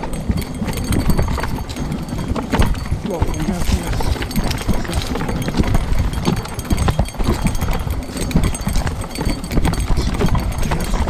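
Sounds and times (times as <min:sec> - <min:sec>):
bike rattling: 0:00.0 - 0:11.0
constant low rumble: 0:00.0 - 0:11.0
tyres crunching over stones: 0:00.0 - 0:11.0.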